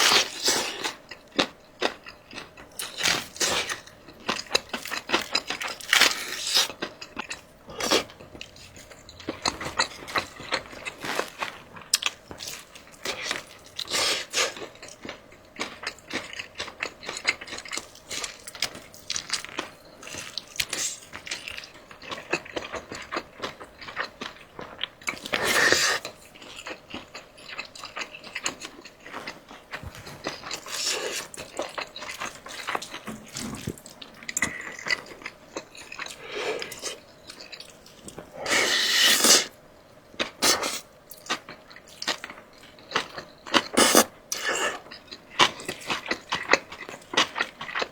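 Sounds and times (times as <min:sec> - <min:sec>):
crunching and chewing: 0:00.0 - 0:47.9.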